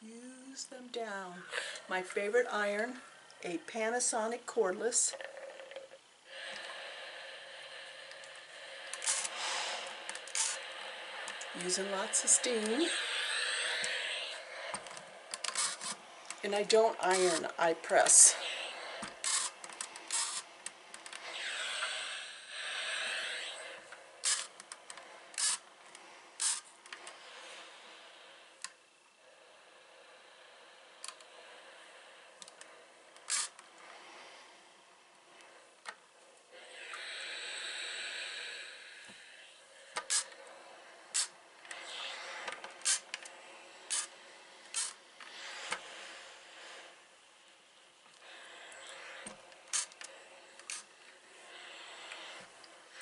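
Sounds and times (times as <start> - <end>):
steam iron hissing: 6.3 - 34.5, 36.6 - 53.0.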